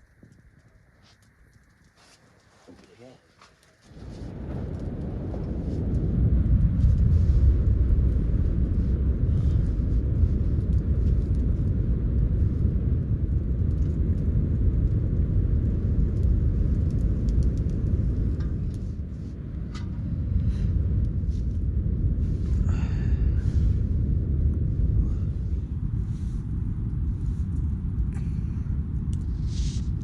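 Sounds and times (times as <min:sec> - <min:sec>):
wind buffeting microphone: 0:03.6 - 0:30.0.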